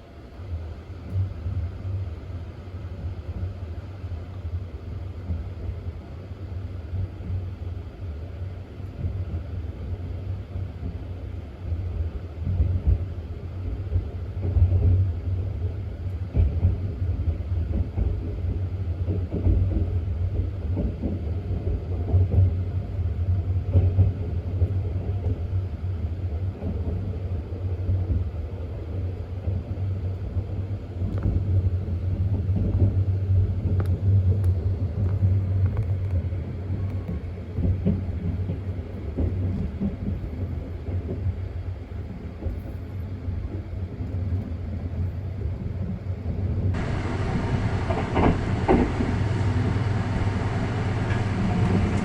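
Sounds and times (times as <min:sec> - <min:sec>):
electric train rumbling: 0:00.0 - 0:52.0.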